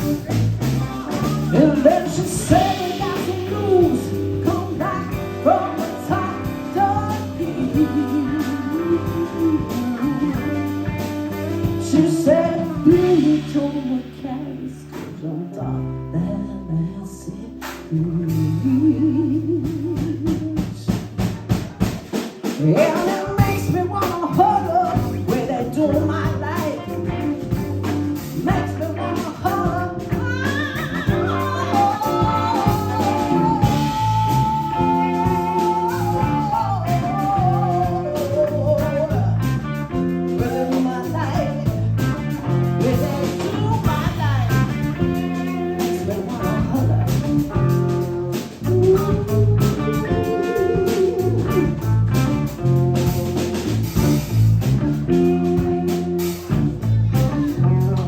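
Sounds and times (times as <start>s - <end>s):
steady drum beat: 0.0s - 14.2s, 19.4s - 58.0s
bass line: 0.0s - 58.0s
guitar: 0.0s - 58.0s
live band playing: 0.0s - 58.0s.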